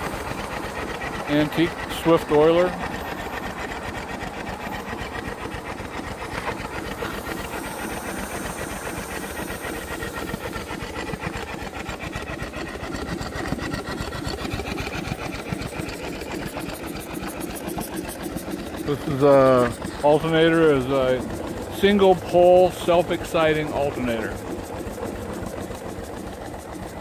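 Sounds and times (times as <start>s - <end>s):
steam engine clattering and chuffing: 0.0s - 27.0s.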